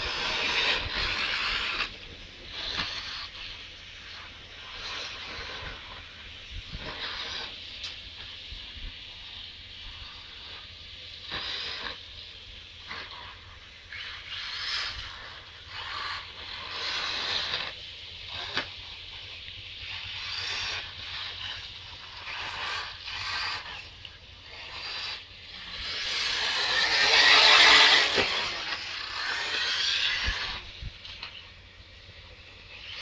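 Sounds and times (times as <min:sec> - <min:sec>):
tyres scraping on loose dirt: 0:00.0 - 0:08.1, 0:12.8 - 0:33.0
radio-controlled car motor whirring: 0:00.0 - 0:33.0.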